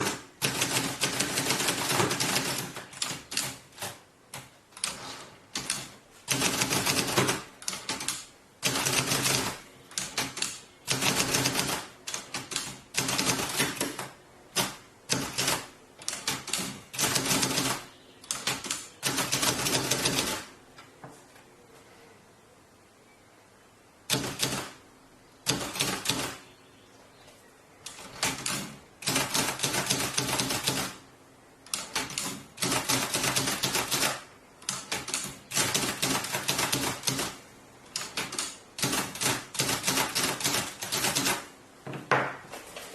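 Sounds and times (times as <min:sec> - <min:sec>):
typewriter typing: 0:00.0 - 0:20.5, 0:24.1 - 0:24.8, 0:25.4 - 0:26.4, 0:27.9 - 0:31.0, 0:31.7 - 0:41.5.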